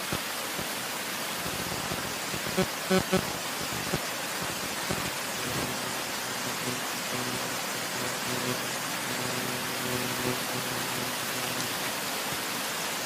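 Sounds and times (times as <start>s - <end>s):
stream running over stones: 0.0s - 8.3s, 10.8s - 13.0s.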